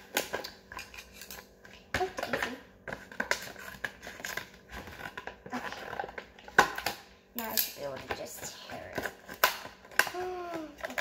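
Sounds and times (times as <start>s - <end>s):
scissors cutting card packaging: 0.0s - 11.0s.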